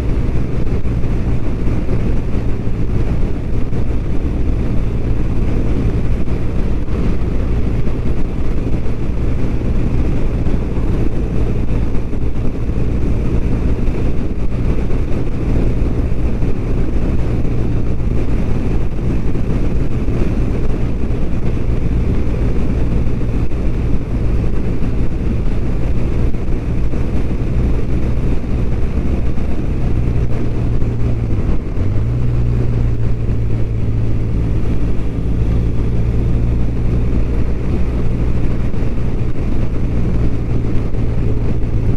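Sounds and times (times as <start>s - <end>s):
motorcycle engine running: 0.0s - 41.9s
wind rushing: 0.0s - 41.9s.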